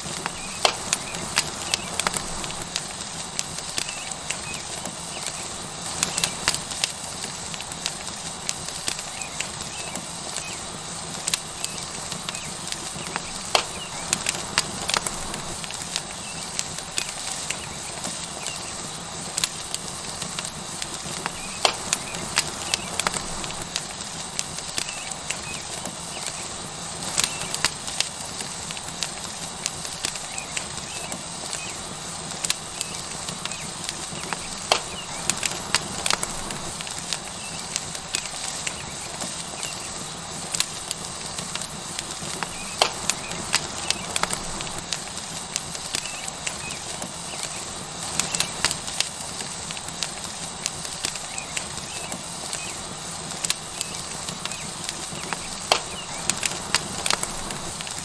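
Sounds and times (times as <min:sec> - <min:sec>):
steak sizzling on hot rock: 0:00.0 - 0:58.0
wood fire crackling and popping: 0:00.0 - 0:58.0.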